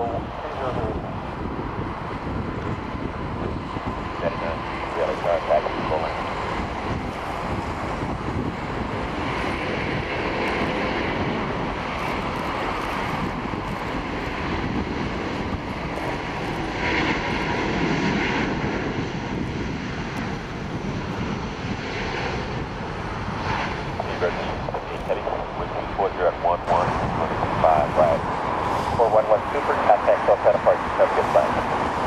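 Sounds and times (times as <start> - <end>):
jet engines at takeoff thrust: 0.0 - 32.0.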